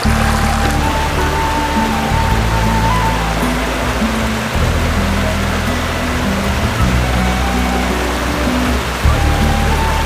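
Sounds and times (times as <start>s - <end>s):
slow held music notes: 0.0s - 10.0s.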